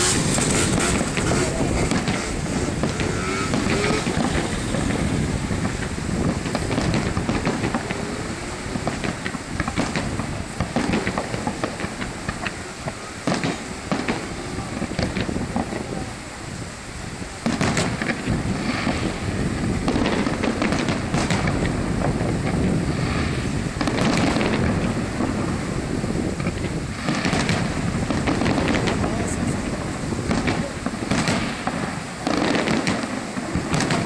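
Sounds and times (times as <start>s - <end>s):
continuous rumble: 0.0s - 34.0s
fireworks bangs: 0.0s - 34.0s.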